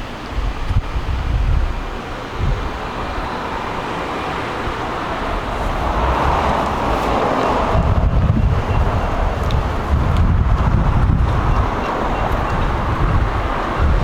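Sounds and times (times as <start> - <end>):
steady outdoor rush: 0.0 - 14.0
wind buffeting microphone: 0.0 - 14.0.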